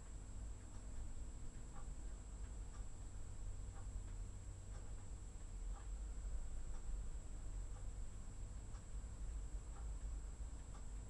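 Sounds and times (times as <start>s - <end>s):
faint regular ticks: 0.0s - 3.1s, 3.7s - 11.0s.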